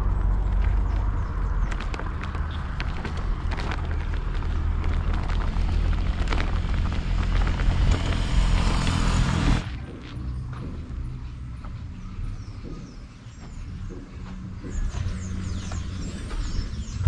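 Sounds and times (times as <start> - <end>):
loud low rumbling: 0.0 - 17.0.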